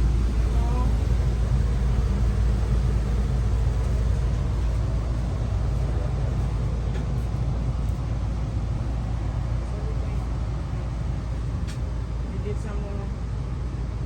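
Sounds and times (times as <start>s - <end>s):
gas furnace rumbling: 0.0s - 14.0s.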